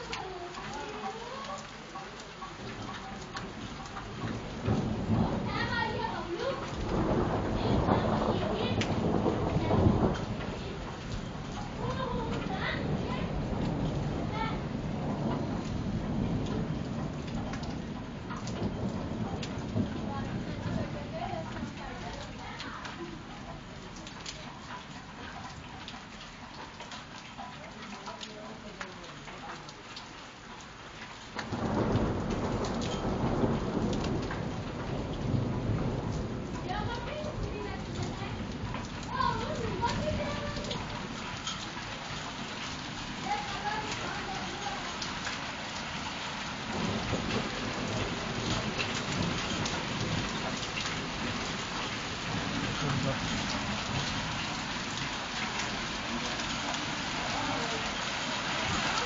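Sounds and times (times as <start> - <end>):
thunder rumbling: 0.0 - 59.0.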